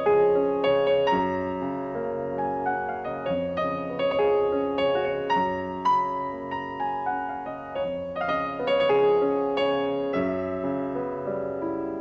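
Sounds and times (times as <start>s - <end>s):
solo piano music: 0.0s - 12.0s.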